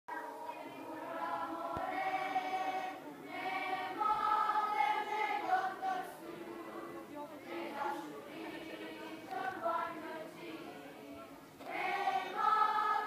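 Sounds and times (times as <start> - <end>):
children's choir singing: 0.1 - 11.0, 11.6 - 13.0.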